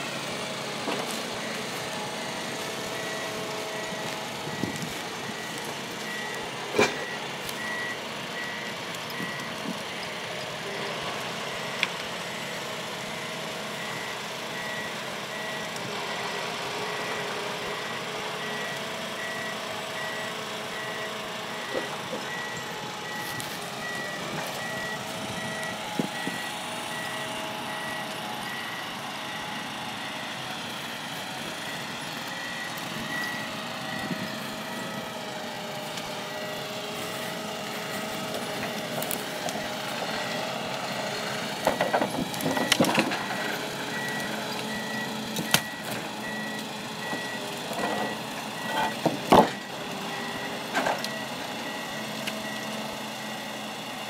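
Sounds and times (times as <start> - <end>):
heavy machine engine running: 0.0 - 54.0
reversing alarm beeping: 0.2 - 54.0.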